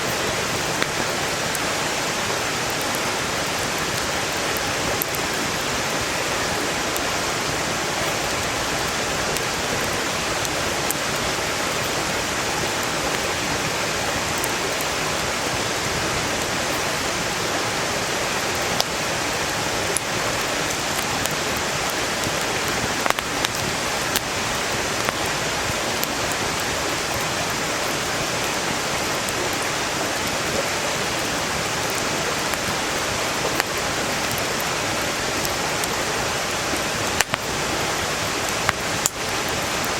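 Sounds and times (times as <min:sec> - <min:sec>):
firewood crackling: 0:00.0 - 0:39.9
stream rushing: 0:00.0 - 0:39.9.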